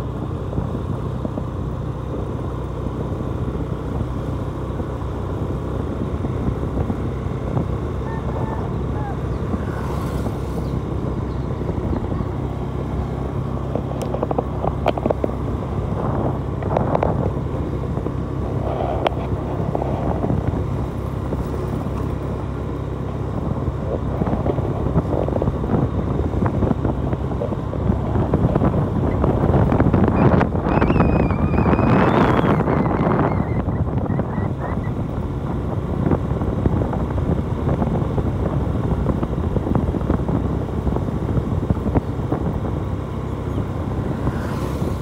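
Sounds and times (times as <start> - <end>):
motorcycle engine running: 0.0 - 45.0
wind noise on microphone: 0.0 - 45.0.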